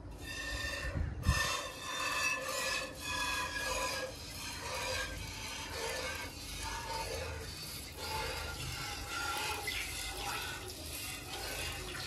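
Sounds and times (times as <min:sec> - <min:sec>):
milk squirting into metal pail: 0:01.3 - 0:12.0.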